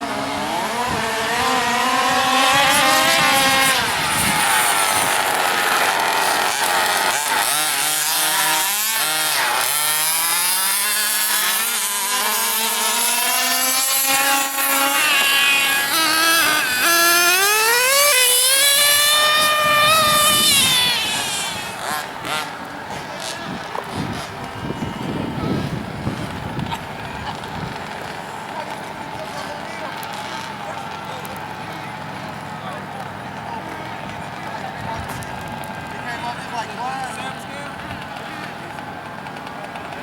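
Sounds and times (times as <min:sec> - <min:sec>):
small two-stroke engines revving: 0:00.0 - 0:40.0.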